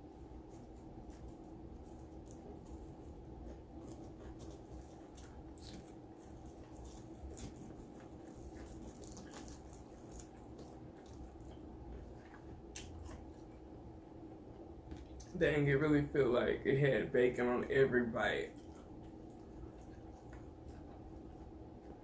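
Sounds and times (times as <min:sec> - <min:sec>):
chewing sandwich: 0:00.0 - 0:15.4, 0:18.4 - 0:22.0
low steady hum: 0:00.0 - 0:22.0.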